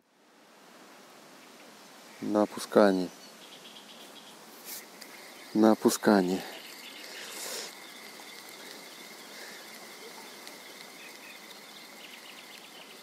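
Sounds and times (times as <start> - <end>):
soft even hiss: 0.0 - 13.0
insects chirring: 1.8 - 13.0.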